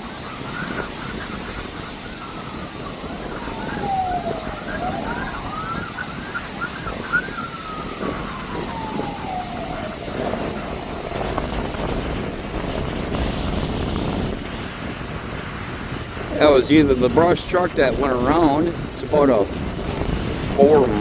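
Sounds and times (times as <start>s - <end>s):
fire truck siren: 0.0s - 15.0s, 16.3s - 21.0s
wind noise: 0.0s - 21.0s.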